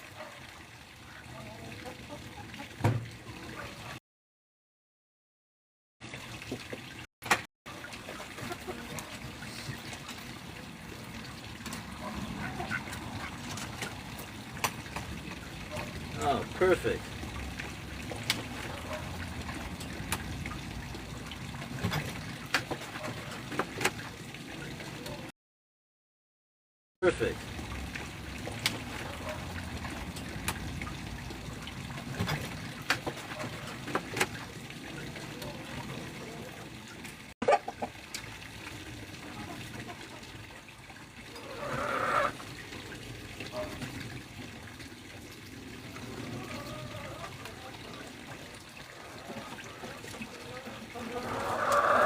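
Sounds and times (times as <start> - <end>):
water running and trickling: 0.0 - 4.0, 6.0 - 25.3, 27.0 - 52.0.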